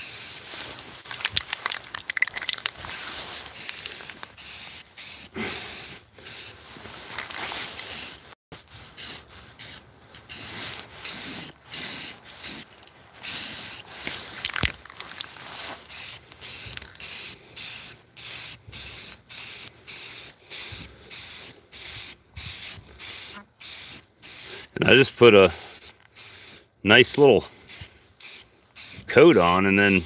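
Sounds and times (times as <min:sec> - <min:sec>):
spray-paint can hissing bursts: 0:00.0 - 0:26.7, 0:27.5 - 0:30.0.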